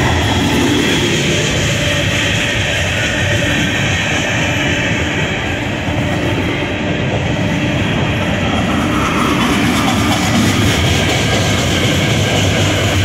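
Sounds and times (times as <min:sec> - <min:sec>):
steel train wheels on rails: 0:00.0 - 0:13.0.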